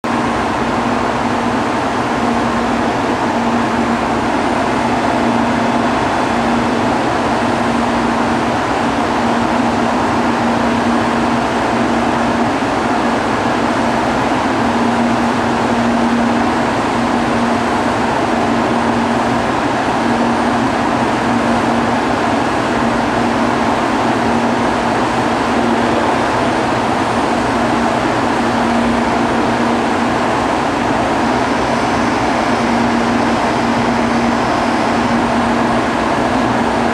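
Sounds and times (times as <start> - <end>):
electrical hum: 0.0 - 36.9
trains running: 0.1 - 36.9.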